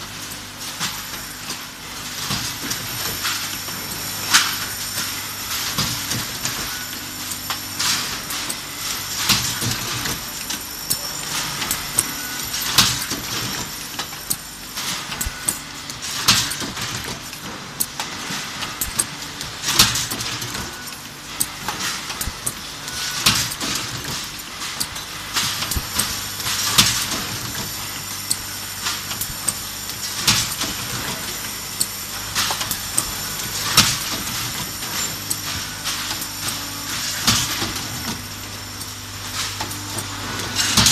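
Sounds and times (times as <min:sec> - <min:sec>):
clicks and rattles of metal parts: 0:00.0 - 0:40.9
steady machine hum: 0:00.0 - 0:40.9.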